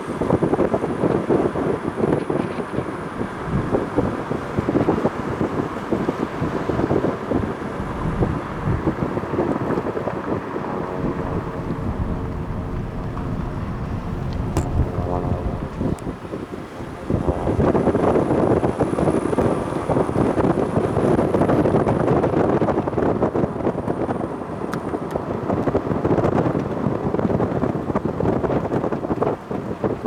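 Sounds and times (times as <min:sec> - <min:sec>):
engine-like drone: 0:00.0 - 0:29.4
wind buffeting microphone: 0:00.0 - 0:30.0.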